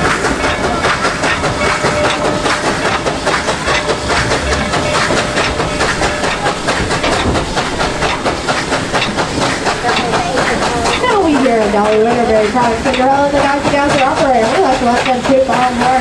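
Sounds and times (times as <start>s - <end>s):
steam hissing: 0.0s - 16.0s
train cars rattling and clattering: 0.0s - 16.0s.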